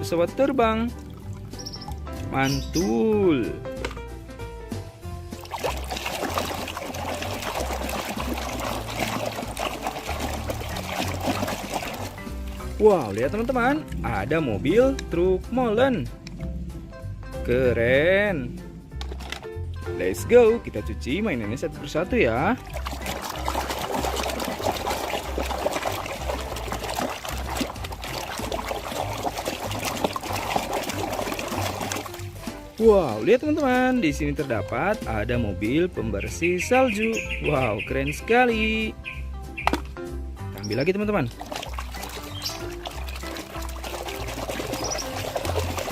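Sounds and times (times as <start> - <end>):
water pouring and splashing: 0.0 - 3.9, 5.0 - 16.5, 19.0 - 35.2, 39.5 - 45.9
background music with bass line: 0.0 - 45.9.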